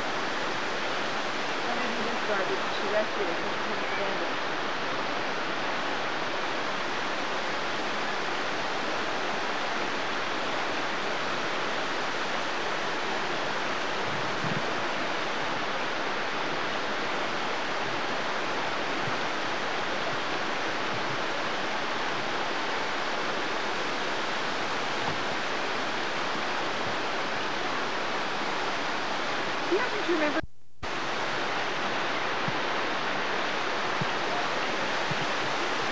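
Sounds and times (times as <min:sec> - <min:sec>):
waterfall rushing over rocks: 0:00.0 - 0:35.9.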